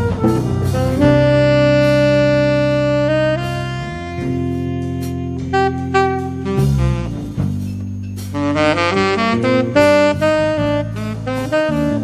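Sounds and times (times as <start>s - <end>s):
drum kit: 0.0s - 12.0s
electric bass: 0.0s - 12.0s
saxophone melody: 0.0s - 12.0s.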